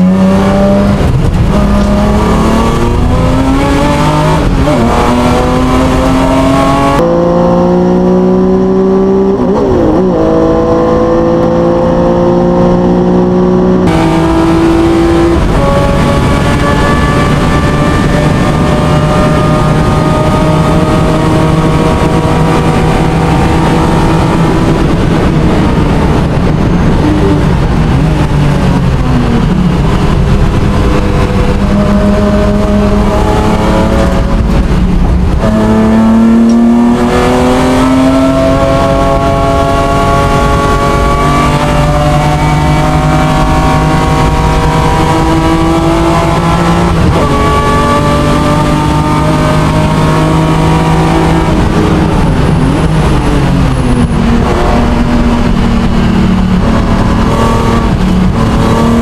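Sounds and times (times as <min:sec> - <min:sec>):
race car engine shifting gears: 0:00.0 - 0:59.0.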